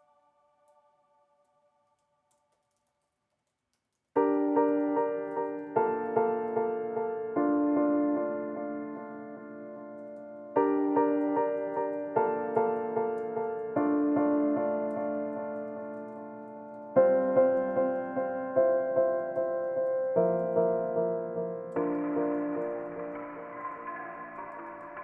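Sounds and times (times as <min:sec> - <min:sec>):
soft electric piano music: 0:04.2 - 0:25.0.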